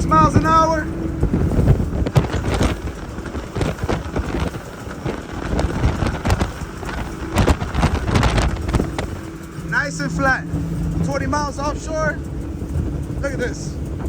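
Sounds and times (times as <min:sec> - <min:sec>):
motorboat running fast: 0:00.0 - 0:14.0
wind buffeting microphone: 0:00.0 - 0:14.0.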